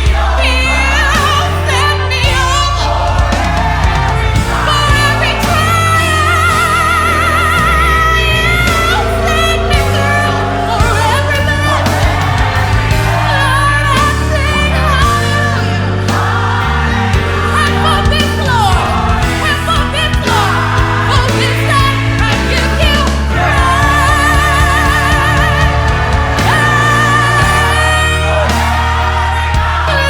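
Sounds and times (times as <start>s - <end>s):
bass line: 0.0s - 30.0s
full band playing: 0.0s - 30.0s
voices singing gospel: 0.0s - 30.0s.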